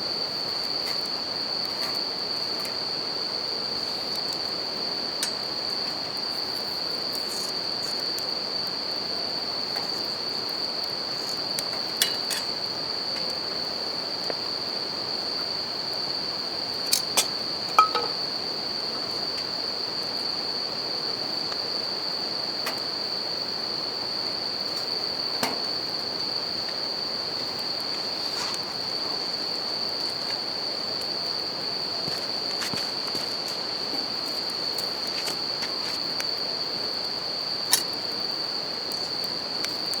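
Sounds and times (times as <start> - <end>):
crickets chorus: 0.0 - 40.0.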